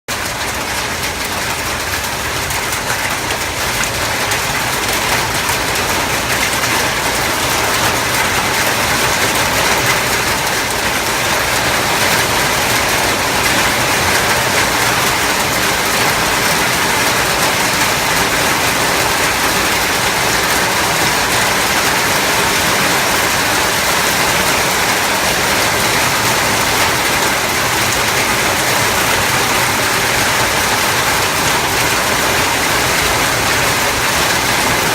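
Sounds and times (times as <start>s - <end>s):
hailstones pelting down: 0.1s - 34.9s.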